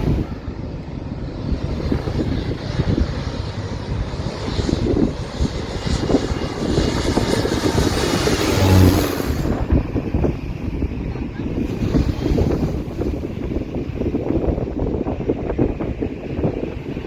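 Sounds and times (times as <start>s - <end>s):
airplane passing overhead: 0.0s - 17.0s.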